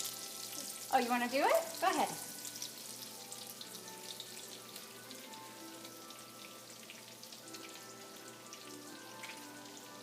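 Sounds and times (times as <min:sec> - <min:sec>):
chicken sizzling in a pan: 0:00.0 - 0:10.0
quiet background music: 0:00.0 - 0:10.0.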